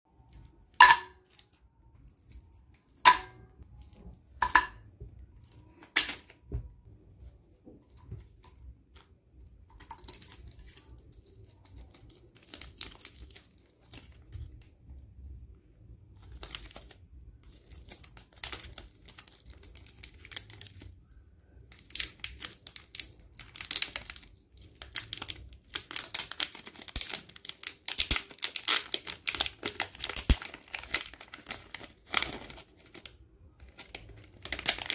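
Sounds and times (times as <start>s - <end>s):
plastic wrappers crinkling and tearing: 0.2s - 4.0s, 7.9s - 15.0s, 15.8s - 34.9s.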